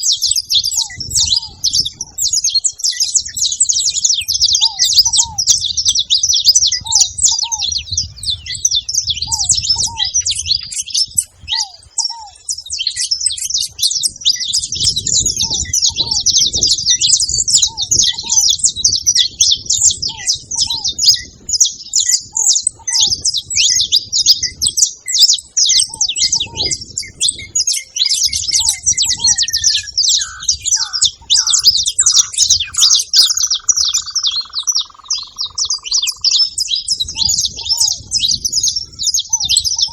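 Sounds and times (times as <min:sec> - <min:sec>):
finches chattering: 0:00.0 - 0:39.9.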